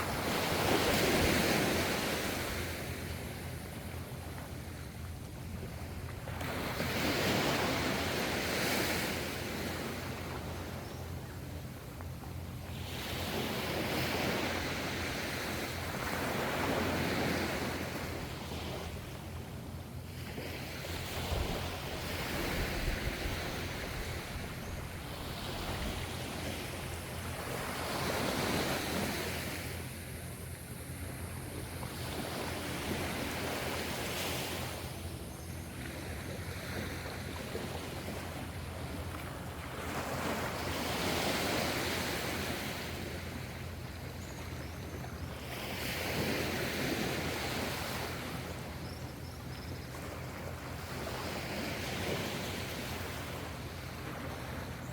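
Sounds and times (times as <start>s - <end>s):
low rumble of surf: 0.0s - 54.9s
ocean waves breaking: 0.0s - 54.9s.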